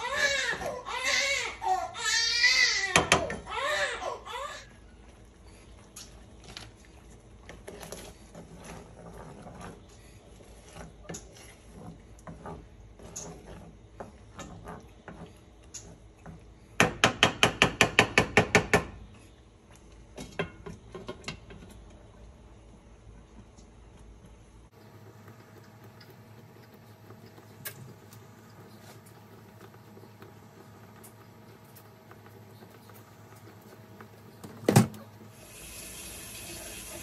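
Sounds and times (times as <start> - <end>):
wooden spoon stirring in skillet: 0.0 - 17.0, 19.1 - 37.0.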